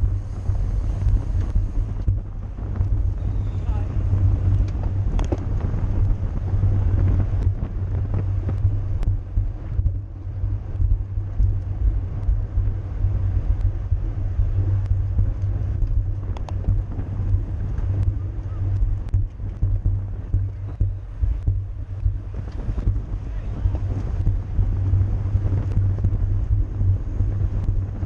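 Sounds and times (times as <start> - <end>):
road noise: 0.0 - 28.0
wind buffeting microphone: 0.0 - 28.0
light clicks and ticks: 0.9 - 12.7, 13.4 - 28.0.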